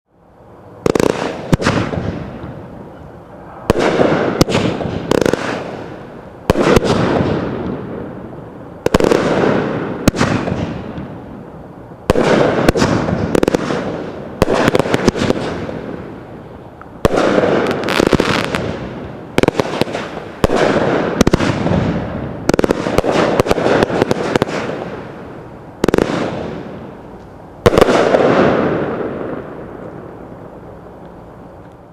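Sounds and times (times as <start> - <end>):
fireworks bursting in volleys: 0.2 - 31.9.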